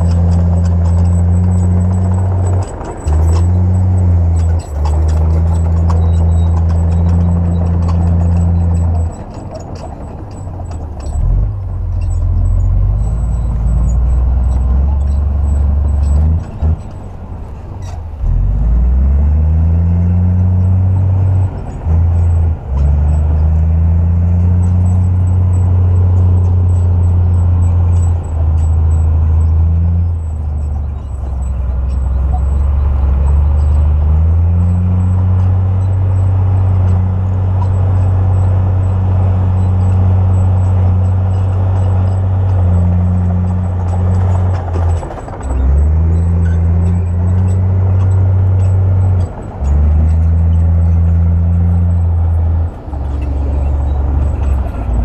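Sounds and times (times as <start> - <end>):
bulldozer diesel engine revving: 0.0 - 55.0.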